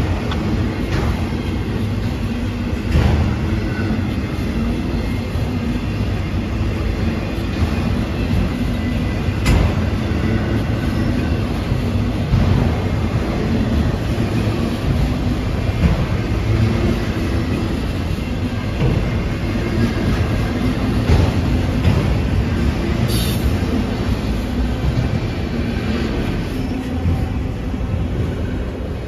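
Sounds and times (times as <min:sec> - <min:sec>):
wheels clanking over rail joints: 0:00.0 - 0:28.7
train wheels rolling on rail: 0:00.0 - 0:29.0.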